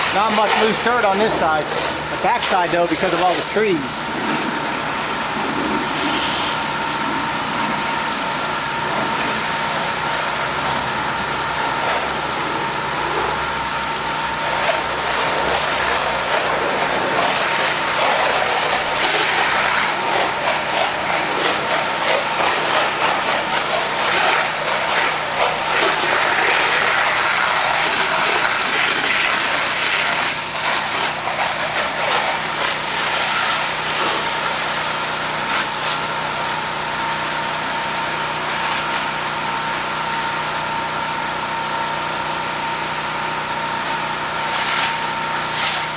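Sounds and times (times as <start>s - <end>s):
pressure washer spraying siding: 0.0s - 45.9s.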